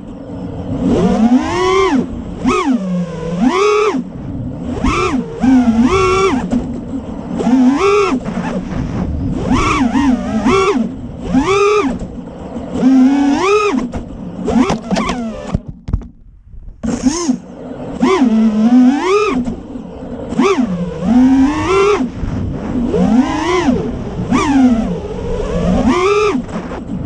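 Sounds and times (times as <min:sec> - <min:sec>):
quadcopter motors whining: 0:00.0 - 0:15.6, 0:16.8 - 0:26.9.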